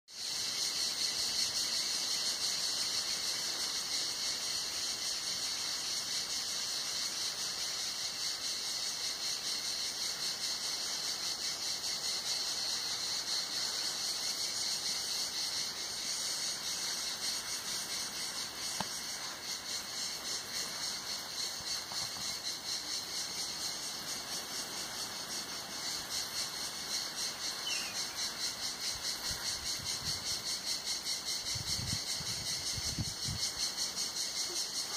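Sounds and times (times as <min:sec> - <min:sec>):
cicadas singing in chorus: 0:00.1 - 0:34.9.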